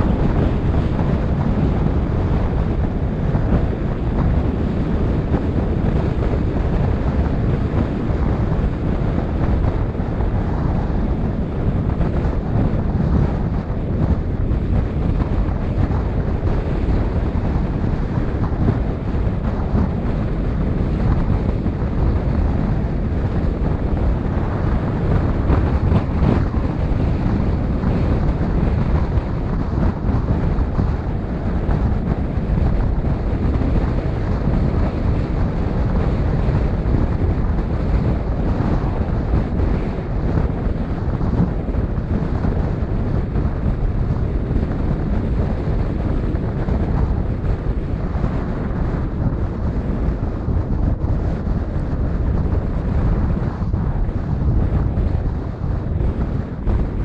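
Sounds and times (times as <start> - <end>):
road and engine noise: 0.0 - 57.0
wind buffeting microphone: 0.0 - 57.0.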